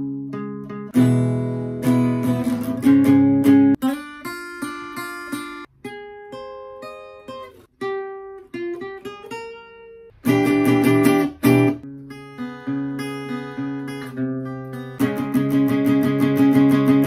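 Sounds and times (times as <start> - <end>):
acoustic guitar picked notes: 0.0 - 17.0
acoustic guitar strummed chords: 0.0 - 17.0.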